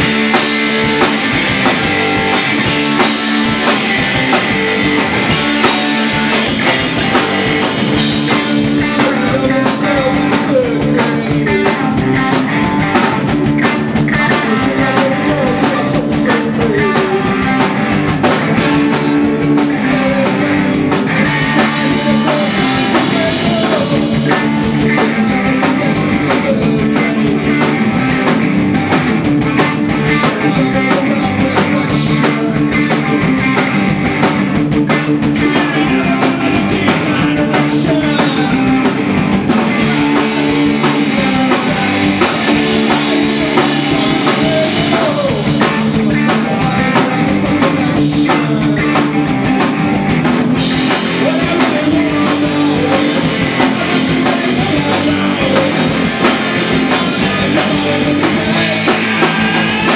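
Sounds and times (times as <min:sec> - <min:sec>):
man singing: 0:00.0 - 0:28.3, 0:29.6 - 0:33.8, 0:34.8 - 0:49.7, 0:50.6 - 0:59.9
bass guitar: 0:00.0 - 0:59.9
distorted electric guitars: 0:00.0 - 0:59.9
drum kit: 0:00.0 - 0:59.9.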